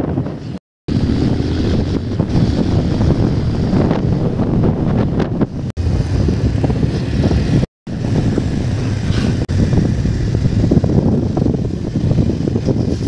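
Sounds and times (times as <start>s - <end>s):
motorcycle running: 0.0s - 13.0s
wind rushing over microphone: 0.0s - 13.0s.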